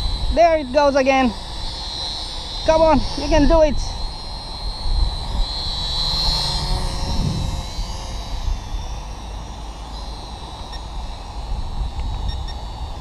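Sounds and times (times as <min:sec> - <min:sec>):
low rumble of wind: 0:00.0 - 0:13.0
toy quadcopter motors whining: 0:00.0 - 0:13.0.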